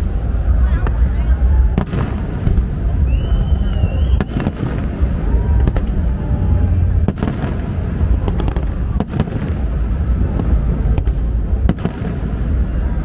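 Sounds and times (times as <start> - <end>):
rumble of firework launches: 0.0 - 13.0
sharp firework bangs and crackles: 1.7 - 13.0.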